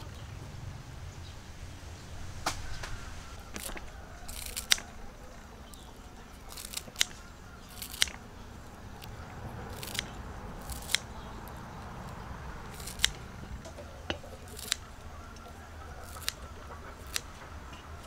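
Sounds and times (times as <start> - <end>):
scissors snipping herb stems: 2.4 - 8.3, 8.9 - 18.0.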